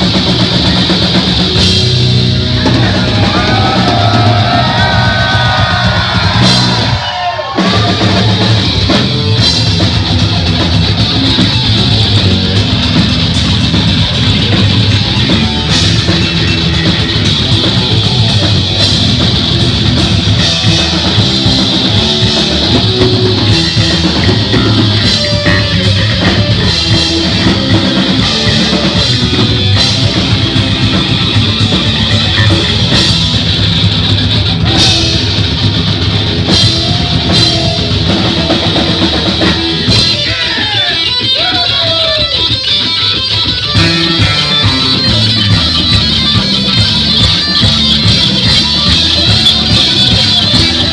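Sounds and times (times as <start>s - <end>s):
bass guitar: 0.0s - 50.9s
distorted electric guitar: 0.0s - 50.9s
drum kit: 0.0s - 50.9s.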